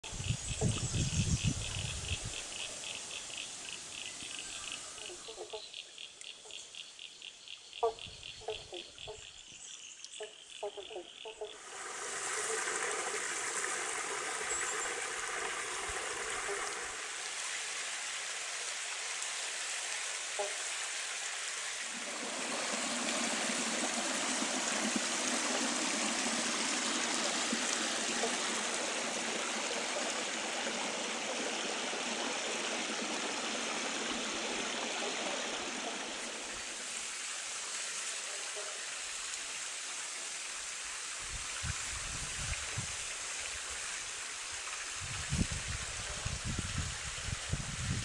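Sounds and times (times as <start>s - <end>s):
creek water running over rock: 0.0s - 6.7s, 8.5s - 48.0s.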